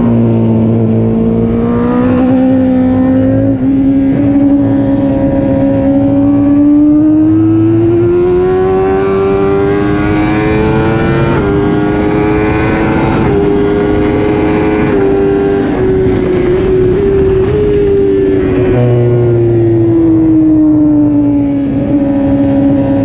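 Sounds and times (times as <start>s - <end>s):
loud wind rush: 0.0s - 23.0s
motorcycle engine at full throttle: 0.0s - 23.0s.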